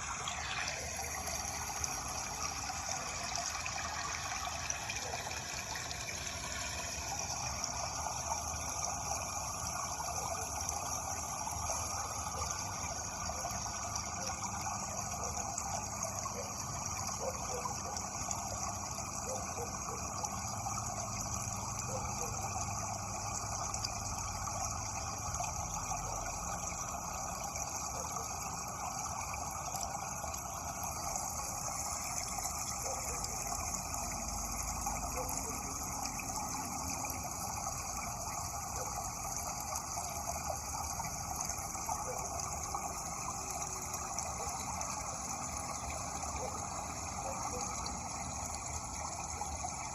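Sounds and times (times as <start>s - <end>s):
running water rushing: 0.0s - 49.9s.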